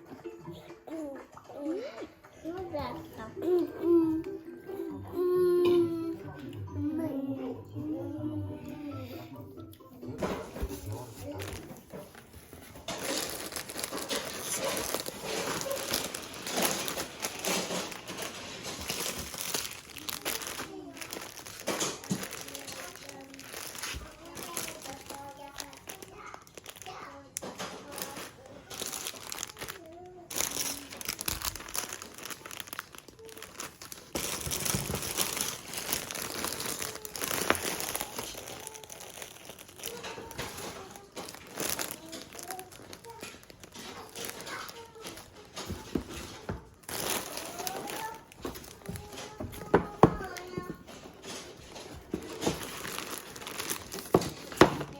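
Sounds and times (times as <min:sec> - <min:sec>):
plastic packaging crinkling: 0:10.2 - 0:54.9.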